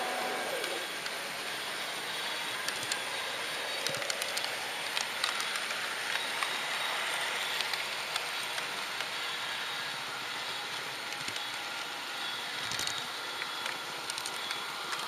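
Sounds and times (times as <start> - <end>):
model train running on track: 0.0 - 15.0
wheels clicking on rails: 0.0 - 15.0.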